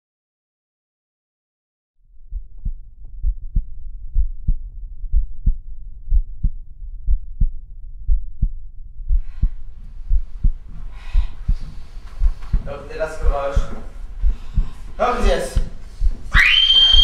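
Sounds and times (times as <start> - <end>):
heartbeat double thumps: 2.1 - 17.0.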